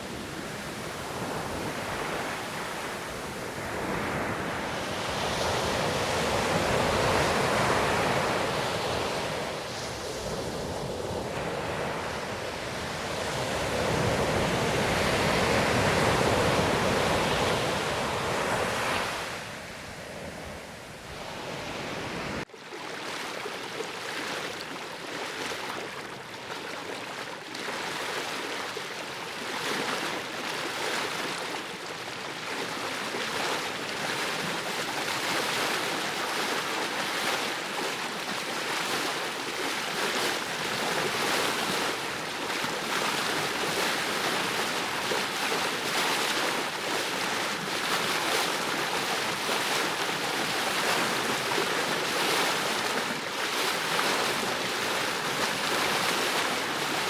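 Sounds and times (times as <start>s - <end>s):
ocean surf breaking waves: 0.0s - 24.6s, 28.7s - 57.0s.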